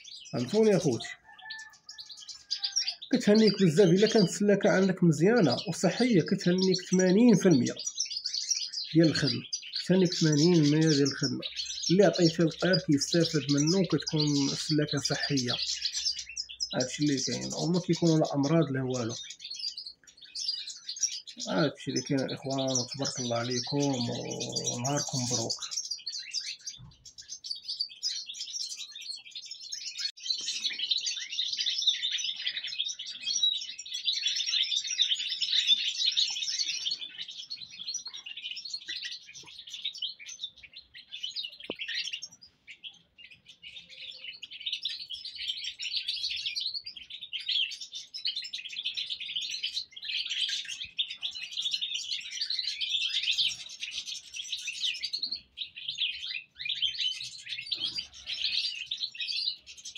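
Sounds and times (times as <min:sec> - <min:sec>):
goldfinches twittering: 0:00.0 - 0:59.9.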